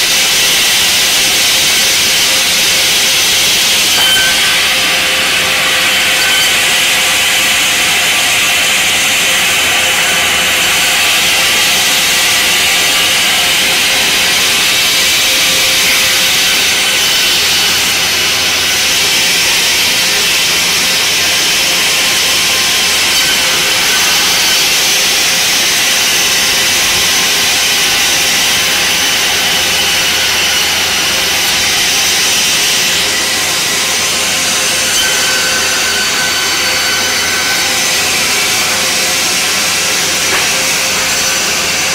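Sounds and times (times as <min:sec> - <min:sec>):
sawmill saw cutting timber: 0:00.0 - 0:41.9.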